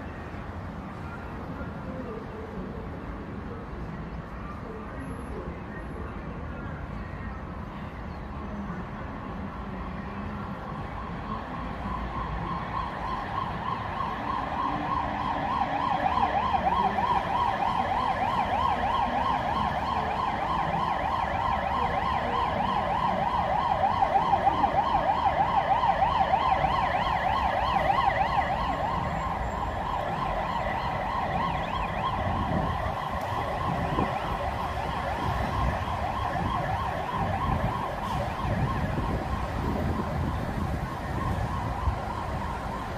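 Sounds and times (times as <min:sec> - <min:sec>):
emergency vehicle siren: 0:00.0 - 0:42.9
traffic rumble: 0:00.0 - 0:42.9.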